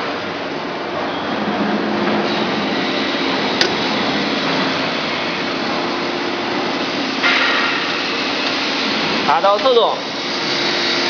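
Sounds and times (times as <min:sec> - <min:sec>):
machinery whirring hum: 0:00.0 - 0:11.0.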